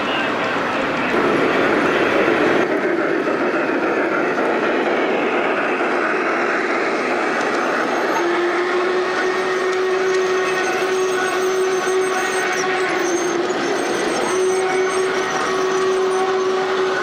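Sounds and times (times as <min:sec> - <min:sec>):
model train wheels on track: 0:00.0 - 0:17.0.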